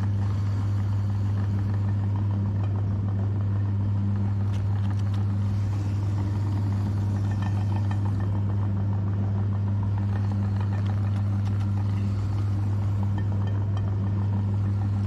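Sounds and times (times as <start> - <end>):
meat grinder motor humming: 0.0 - 15.0.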